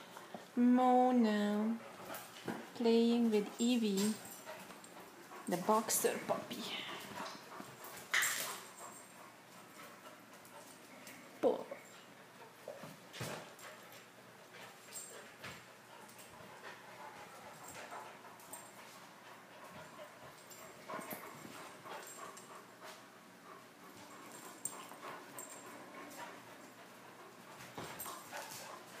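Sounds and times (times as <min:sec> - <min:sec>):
paws and bodies scuffling on floor: 0:01.6 - 0:29.0.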